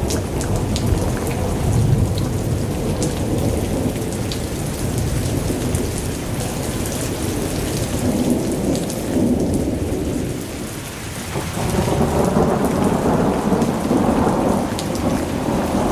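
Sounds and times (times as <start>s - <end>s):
heavy rain pouring: 0.0s - 15.9s.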